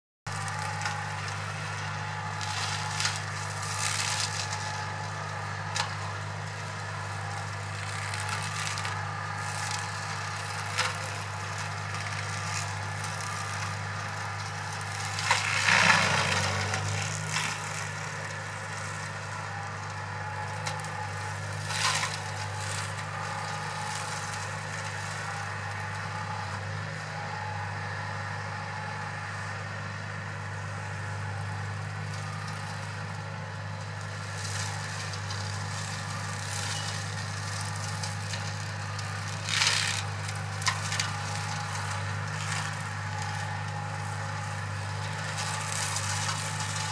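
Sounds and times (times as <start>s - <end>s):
branches cracking and crackling: 0.3s - 26.8s, 31.4s - 46.9s
engine and flail rotor drone: 0.3s - 46.9s.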